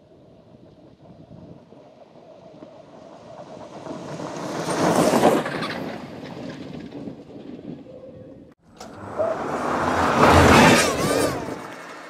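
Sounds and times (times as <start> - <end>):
electric car driving past on dirt: 1.8 - 12.0.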